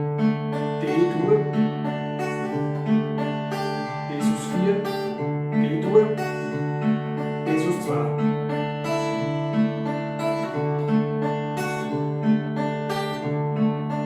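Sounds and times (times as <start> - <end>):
acoustic guitar picked: 0.0 - 14.0.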